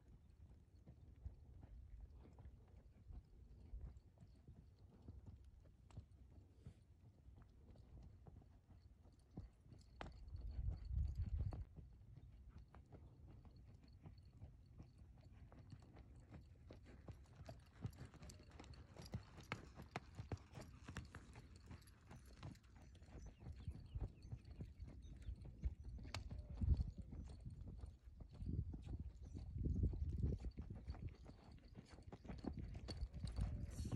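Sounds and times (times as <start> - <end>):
horse hoofbeats on sand: 0.1 - 33.9.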